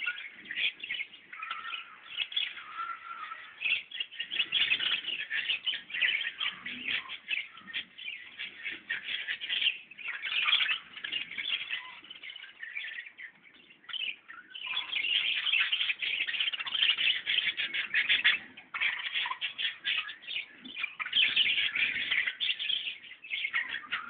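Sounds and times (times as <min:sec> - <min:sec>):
birds chirping in chorus: 0:00.0 - 0:24.0.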